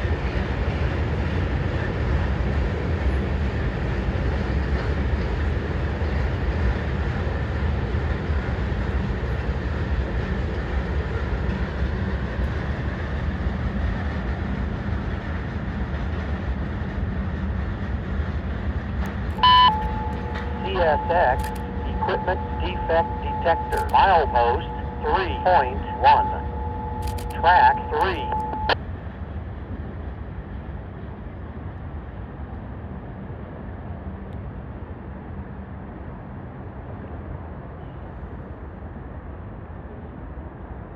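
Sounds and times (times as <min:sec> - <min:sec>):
train wheels rumbling on track: 0:00.0 - 0:33.6.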